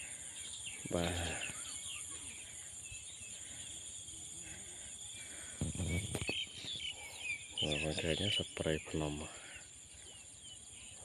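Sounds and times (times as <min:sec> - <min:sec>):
bird chirps: 0:00.0 - 0:11.0
insect chorus: 0:00.0 - 0:11.0.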